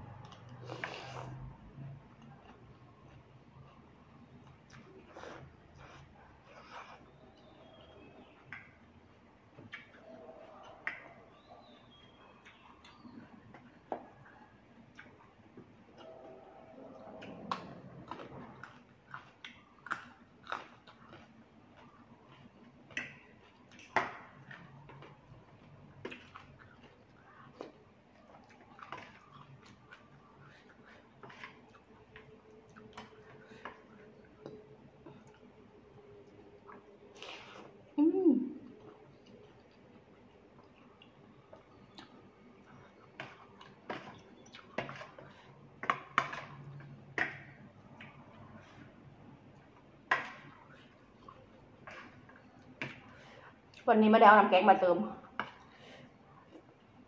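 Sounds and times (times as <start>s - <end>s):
chewing with mouth smacks: 0.0s - 38.0s, 38.6s - 53.9s.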